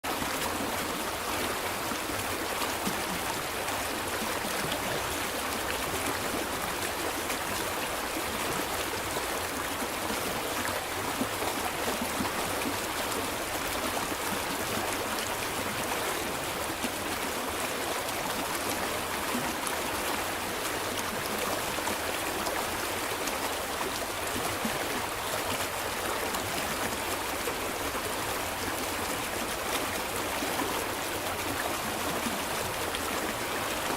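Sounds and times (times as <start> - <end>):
stream flowing over stones: 0.0 - 33.9.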